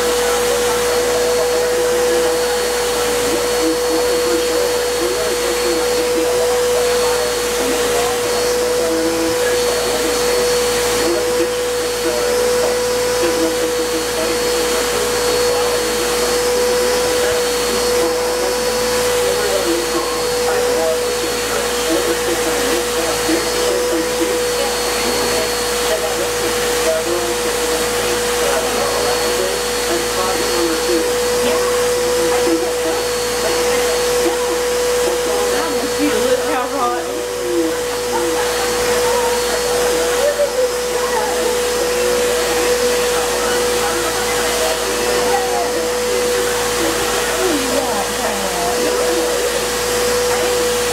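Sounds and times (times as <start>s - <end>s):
vacuum cleaner whining: 0.0s - 50.9s.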